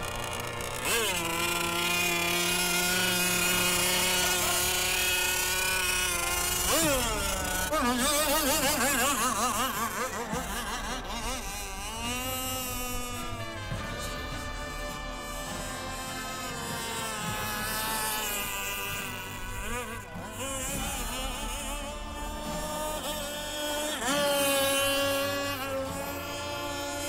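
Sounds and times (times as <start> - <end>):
model boat motor whining: 0.0 - 27.0.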